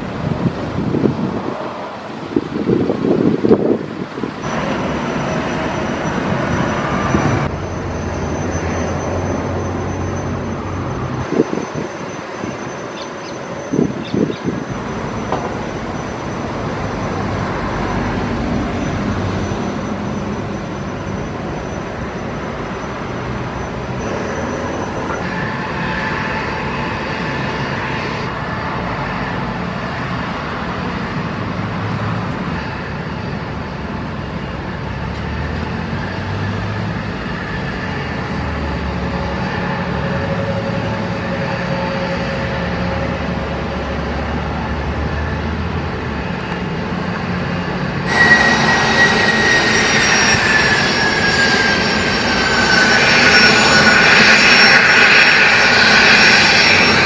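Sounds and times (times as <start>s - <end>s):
high engine whine: 0.0s - 57.0s
jet engines idling: 0.0s - 57.0s.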